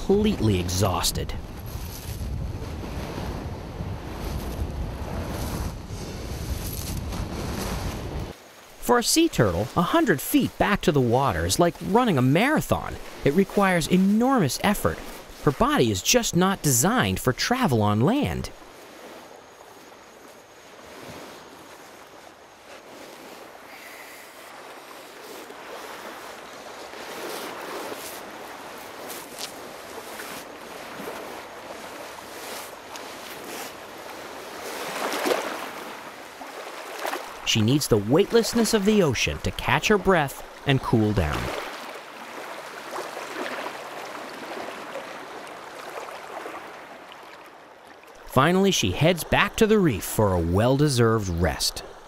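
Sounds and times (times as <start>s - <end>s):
surf washing on a beach: 0.0s - 52.0s
water lapping over sand: 0.0s - 52.0s.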